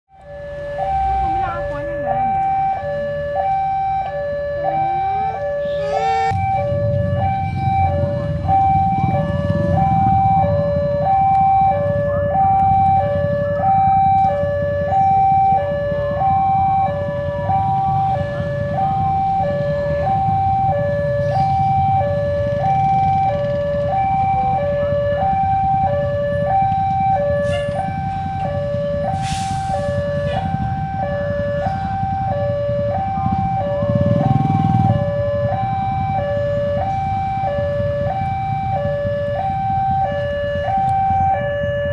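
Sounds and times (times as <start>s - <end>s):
low rumble of vehicle engines: 0.1s - 41.9s.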